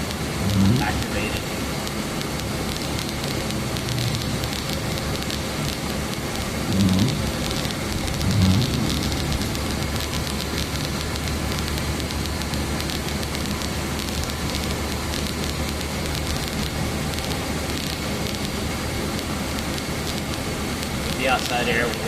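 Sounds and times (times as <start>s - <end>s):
heater fan blowing: 0.0s - 22.0s
rain and wet road noise: 0.0s - 22.0s.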